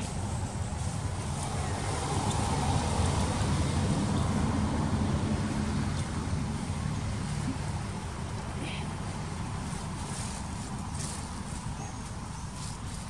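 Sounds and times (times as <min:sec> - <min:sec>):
passing motor vehicle rumble: 0:00.0 - 0:13.0.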